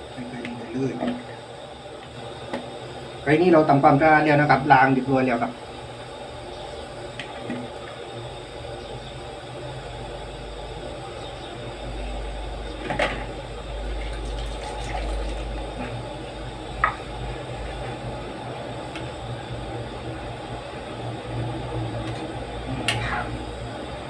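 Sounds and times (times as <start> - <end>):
food simmering in a pan: 0.0 - 24.0.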